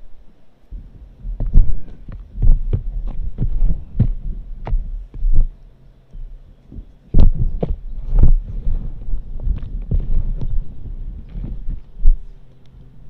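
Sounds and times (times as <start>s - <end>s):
dull low thumps: 0.0s - 13.0s.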